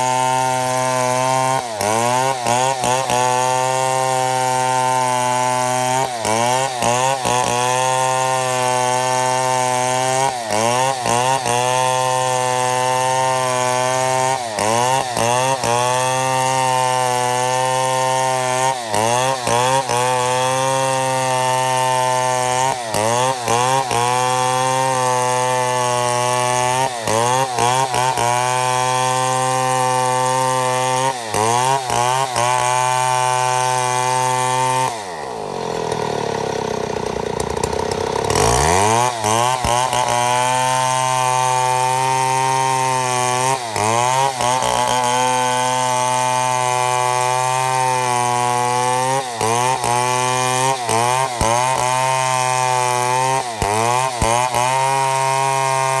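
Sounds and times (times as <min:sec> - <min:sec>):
chainsaw milling a log: 0:00.0 - 0:56.0.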